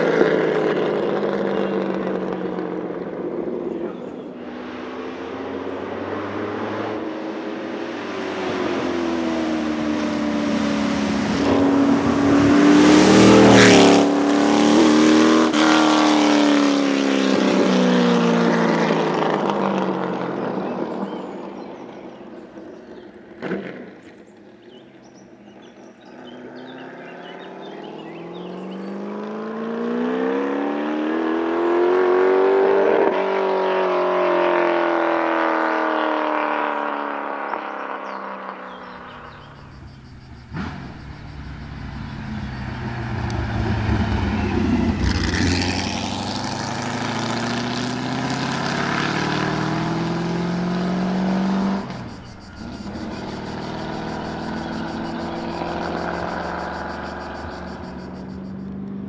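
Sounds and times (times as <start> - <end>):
race car engine accelerating: 0.0 - 22.2, 25.5 - 59.0.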